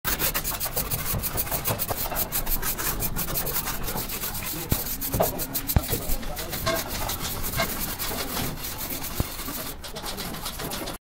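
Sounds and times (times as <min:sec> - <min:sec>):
sponge scrubbing brick wall: 0:00.1 - 0:11.0.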